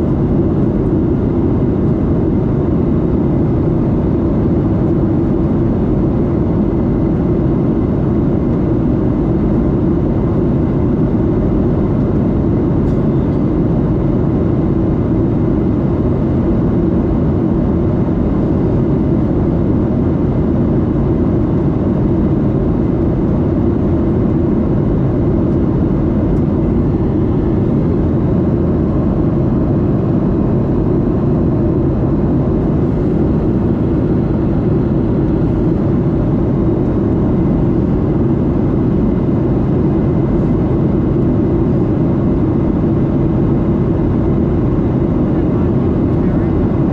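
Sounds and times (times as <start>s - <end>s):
jet engine roar in cabin: 0.0s - 46.9s.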